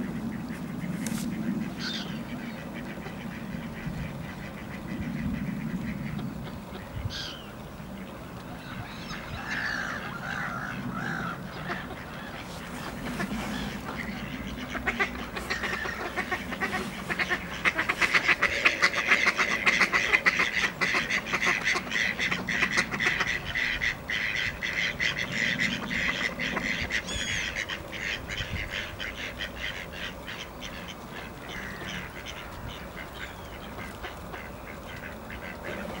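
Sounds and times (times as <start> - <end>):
mallards quacking: 0.0 - 36.0.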